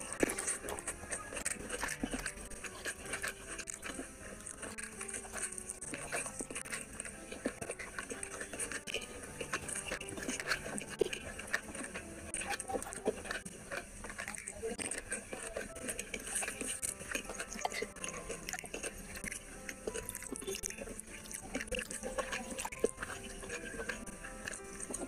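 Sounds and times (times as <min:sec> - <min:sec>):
fingers squelching in food: 0:00.0 - 0:25.0
wet chewing and lip smacks: 0:00.0 - 0:25.0.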